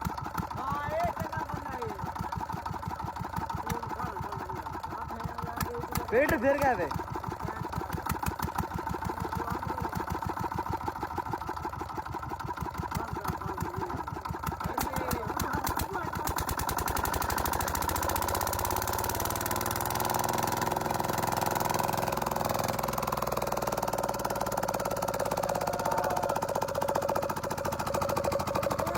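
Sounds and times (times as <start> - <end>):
diesel engine chugging: 0.0 - 28.9.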